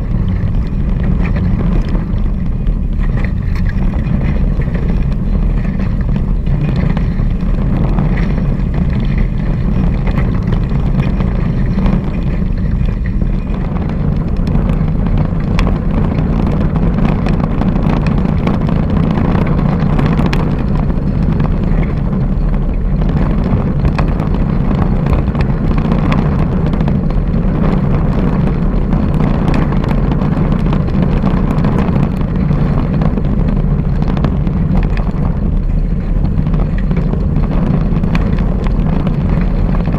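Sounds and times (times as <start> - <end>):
water splashing against hulls: 0.0 - 39.9
wind buffeting microphone: 0.0 - 39.9.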